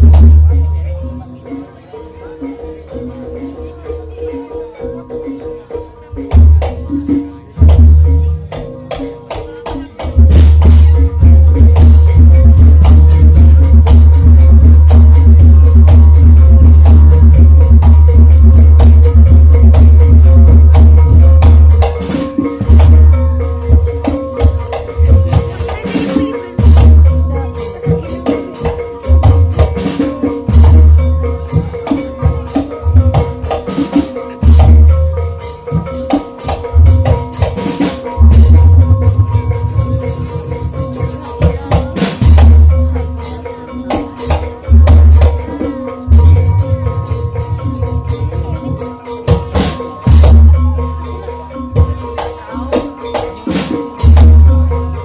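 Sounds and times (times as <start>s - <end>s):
deep loud drum beats: 0.0s - 1.2s, 6.2s - 52.8s, 53.9s - 55.0s
gamelan music: 0.0s - 55.0s.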